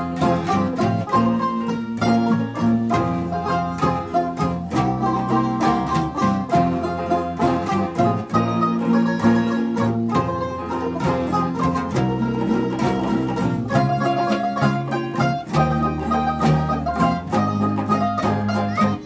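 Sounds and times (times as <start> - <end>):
acoustic bass guitar: 0.0 - 19.0
banjo picking melody: 0.0 - 19.0
strummed acoustic guitars: 0.0 - 19.0.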